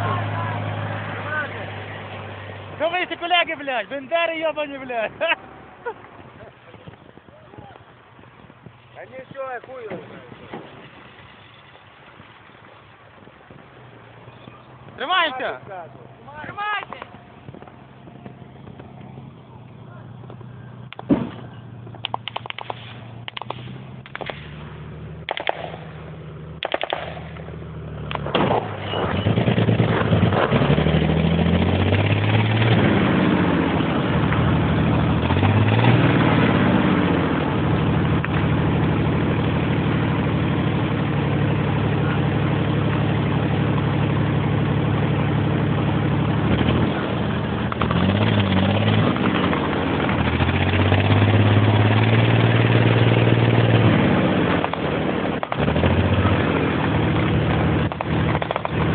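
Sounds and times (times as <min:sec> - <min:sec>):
heavy vehicle engine revving: 0:00.0 - 0:58.9.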